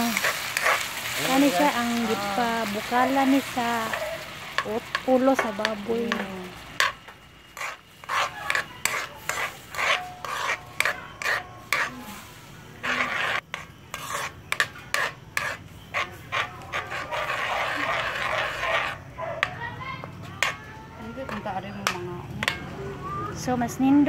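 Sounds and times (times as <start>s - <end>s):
metal ladle scraping a wok: 0.0s - 19.5s, 21.2s - 22.7s.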